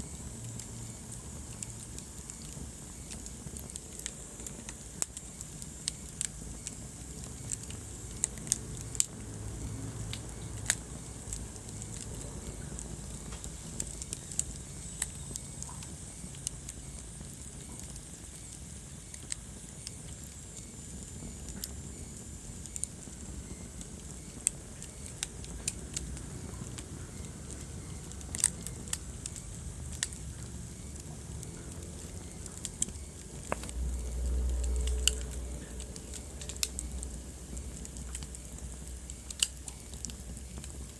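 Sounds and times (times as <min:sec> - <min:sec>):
low rumble of burning: 0:00.0 - 0:40.9
wood fire crackling and popping: 0:00.0 - 0:40.9.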